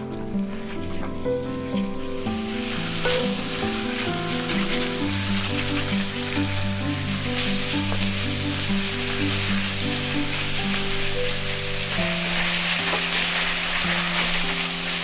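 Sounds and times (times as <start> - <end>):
background music: 0.0 - 15.0
food sizzling in frying: 0.0 - 15.0.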